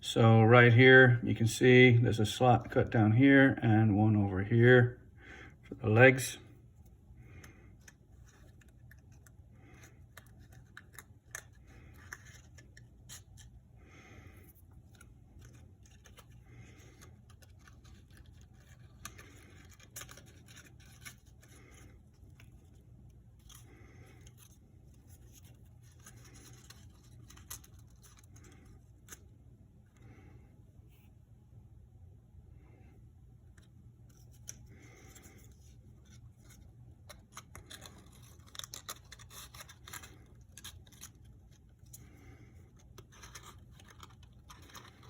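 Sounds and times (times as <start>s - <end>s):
low steady room hum: 0.0s - 45.0s.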